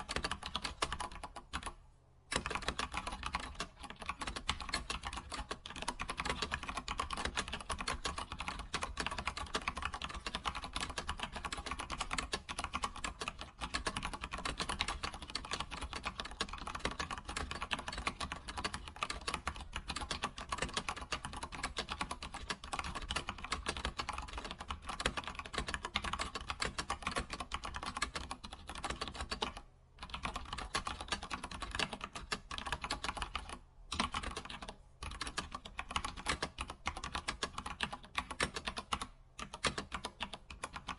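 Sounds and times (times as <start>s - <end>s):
computer keyboard typing: 0.0s - 40.9s.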